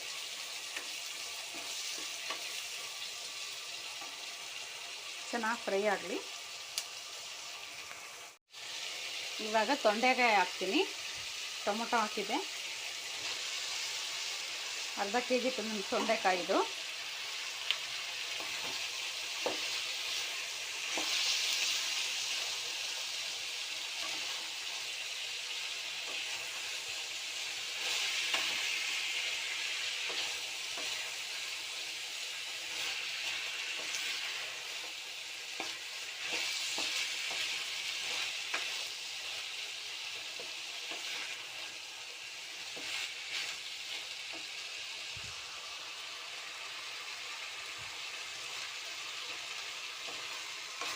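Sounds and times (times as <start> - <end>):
vegetables sizzling in hot oil: 0.0 - 50.9.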